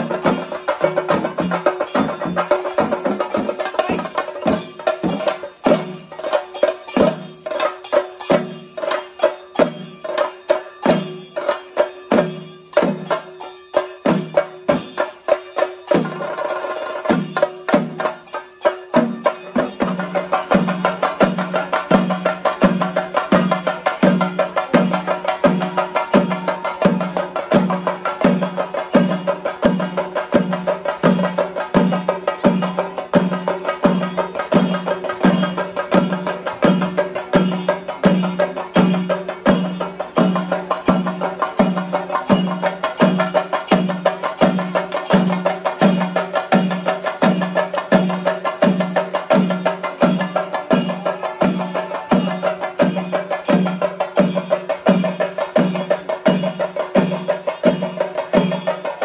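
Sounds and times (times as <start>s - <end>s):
drum ensemble heavy beat: 0.0s - 59.0s
ringing hand cymbals: 0.0s - 59.0s.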